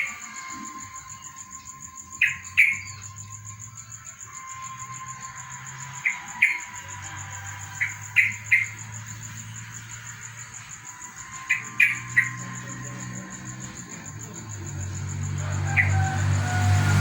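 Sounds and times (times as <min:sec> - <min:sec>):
insect trill: 0:00.0 - 0:17.0.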